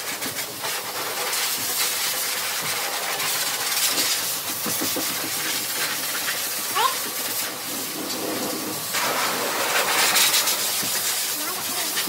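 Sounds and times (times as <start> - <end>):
pet dryer blowing air: 0.0 - 12.0.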